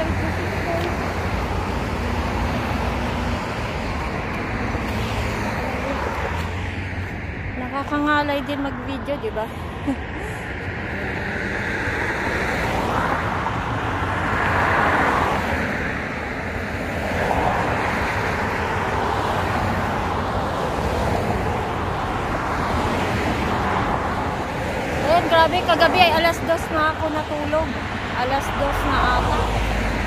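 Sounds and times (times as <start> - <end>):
cars passing on busy road: 0.0 - 30.0.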